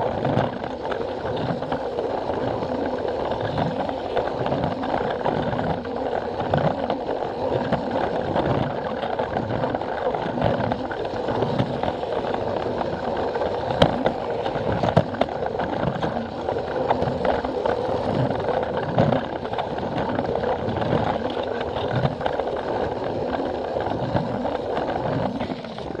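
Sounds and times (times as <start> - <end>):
low clacks of track: 0.0 - 26.0.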